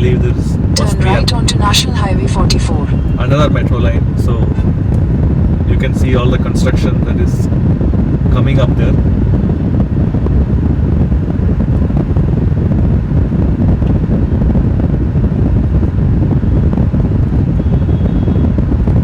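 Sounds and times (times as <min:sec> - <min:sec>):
vehicle road and wind rumble: 0:00.0 - 0:19.0
wind buffeting microphone: 0:00.0 - 0:19.0.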